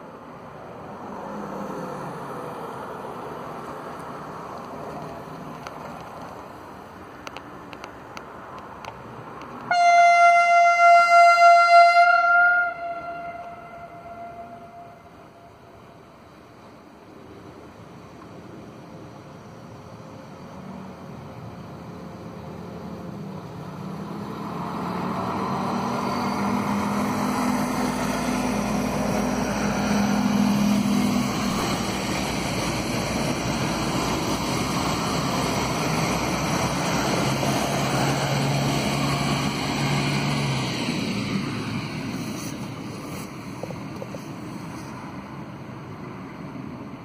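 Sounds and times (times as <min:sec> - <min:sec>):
diesel engine drone: 0:00.0 - 0:47.0
wheels rushing on rails: 0:00.0 - 0:47.0.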